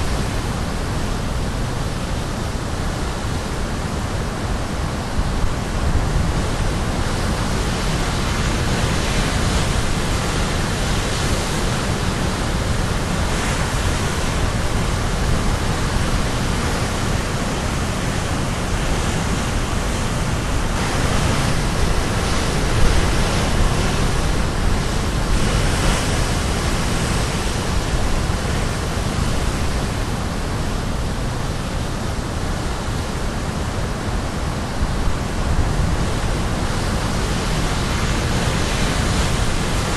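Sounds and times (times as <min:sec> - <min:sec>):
surf crashing on shore: 0:00.0 - 0:39.9.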